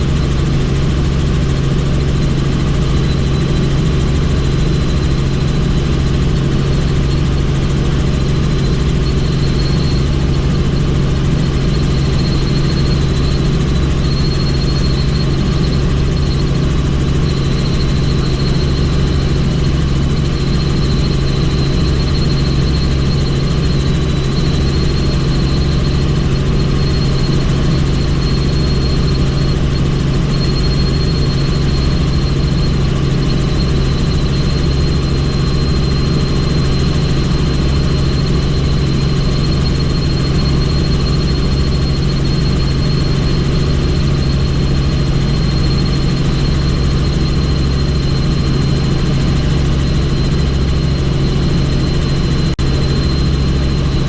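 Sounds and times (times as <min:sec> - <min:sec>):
helicopter drone: 0:00.0 - 0:54.0.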